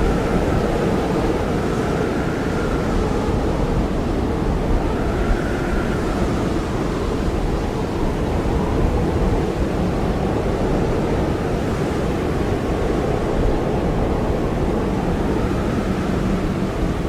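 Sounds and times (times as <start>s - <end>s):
blizzard wind blowing hard: 0.0s - 17.0s.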